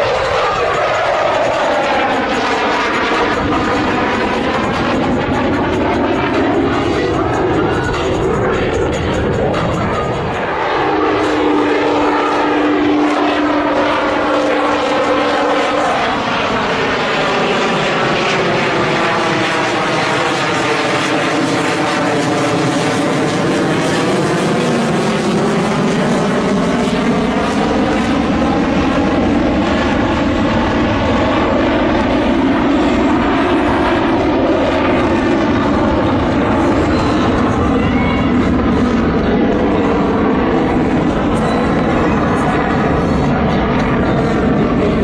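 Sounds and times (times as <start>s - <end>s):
fighter jet flying past: 0.0s - 45.0s.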